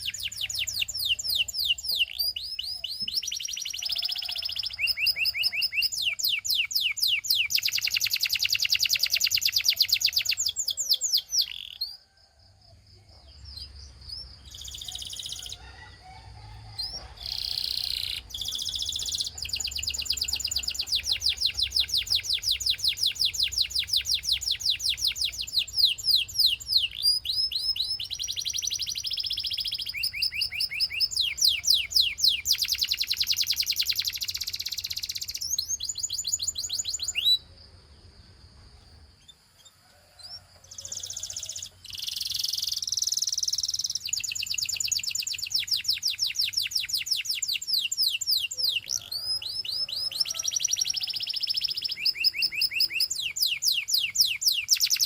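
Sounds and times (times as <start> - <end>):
canary singing trills: 0.0 - 12.2, 13.1 - 37.8, 38.8 - 55.0.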